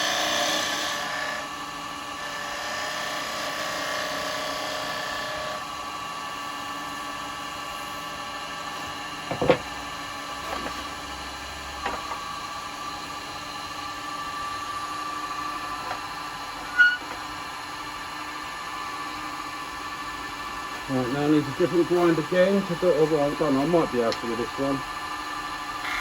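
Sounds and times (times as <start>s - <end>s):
wood lathe running: 0.0s - 26.0s.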